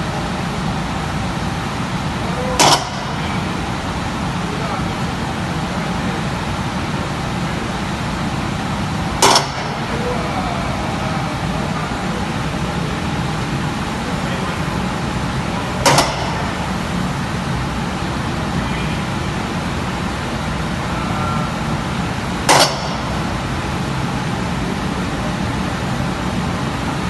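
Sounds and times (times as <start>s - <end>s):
foundry machinery drone: 0.0s - 27.0s.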